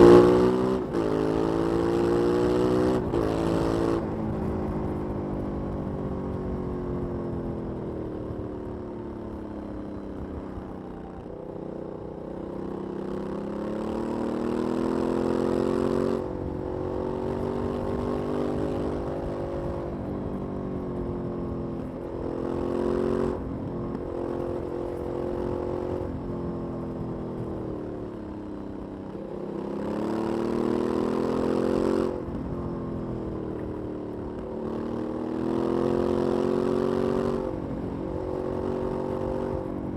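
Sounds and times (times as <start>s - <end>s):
motorcycle engine revving: 0.0s - 8.4s, 11.2s - 39.9s.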